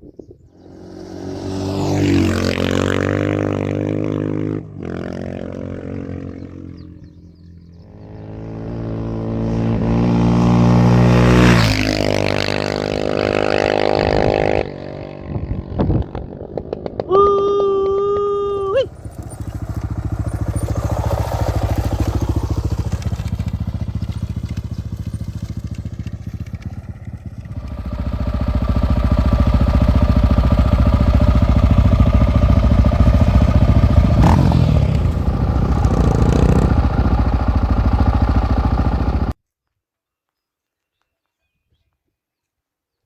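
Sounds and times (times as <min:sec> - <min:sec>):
dirt bike engine running: 0:00.5 - 0:39.4.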